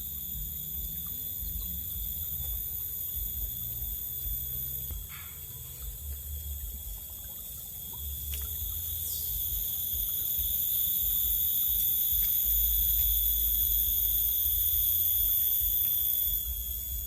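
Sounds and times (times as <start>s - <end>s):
high-pitched insect chorus: 0.0s - 17.0s
low rumble: 0.0s - 17.0s.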